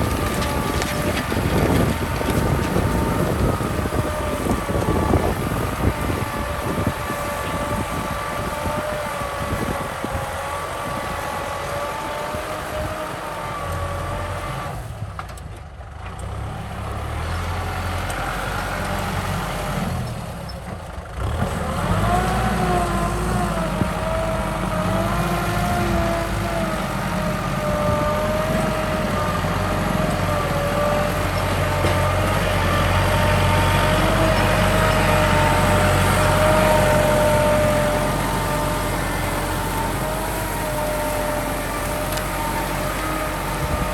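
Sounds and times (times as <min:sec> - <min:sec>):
tractor diesel engine under load: 0:00.0 - 0:43.9.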